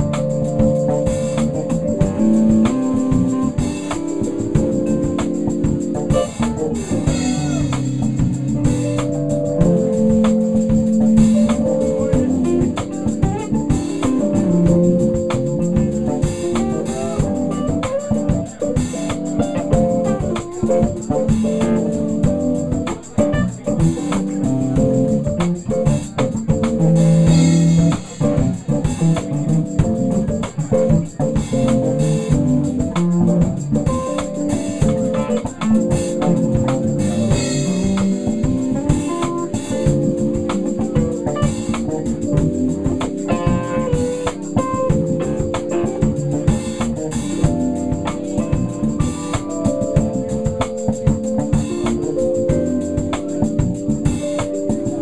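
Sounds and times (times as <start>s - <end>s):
drum kit and cymbal hits: 0.0s - 55.0s
electric guitar: 0.0s - 55.0s.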